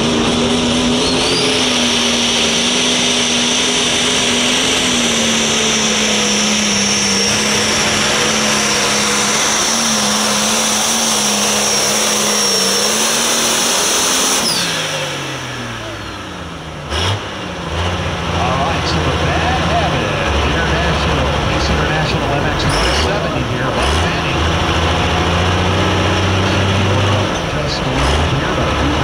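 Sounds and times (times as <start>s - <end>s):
diesel tractor engine at full throttle: 0.0s - 29.0s
turbo whine: 0.0s - 29.0s.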